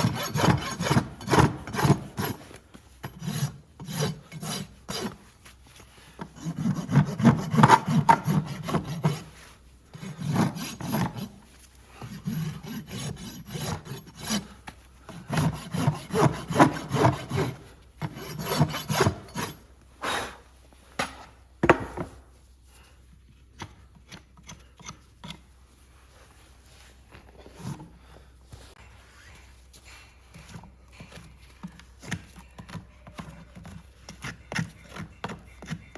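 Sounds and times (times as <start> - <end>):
rasp filing a hoof: 0.0 - 19.7, 22.8 - 25.6, 29.3 - 35.9.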